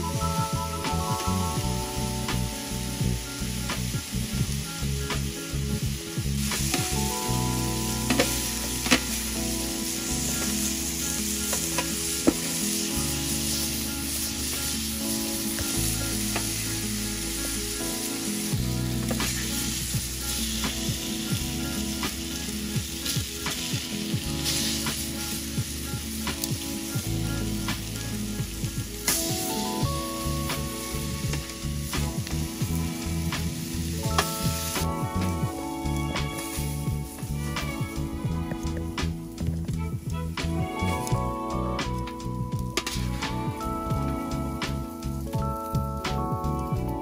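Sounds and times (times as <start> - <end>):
meat sizzling in hot fat: 0.0 - 39.7, 40.4 - 47.0
background music with bass: 0.0 - 47.0.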